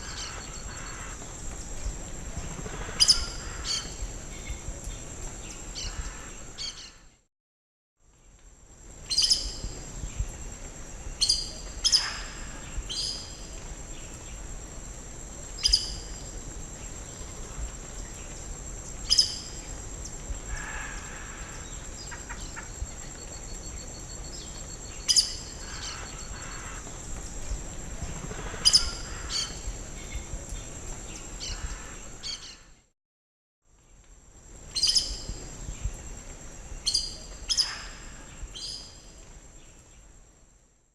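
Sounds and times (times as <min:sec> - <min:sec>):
insects humming: 0:00.0 - 0:07.0, 0:08.6 - 0:32.6, 0:33.9 - 0:40.5.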